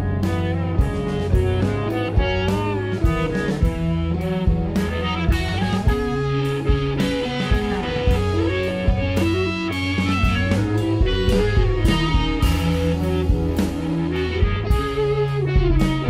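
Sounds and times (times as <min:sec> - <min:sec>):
bass guitar: 0:00.0 - 0:16.0
drum kit steady beat: 0:00.0 - 0:16.0
electric guitar notes: 0:00.0 - 0:16.0.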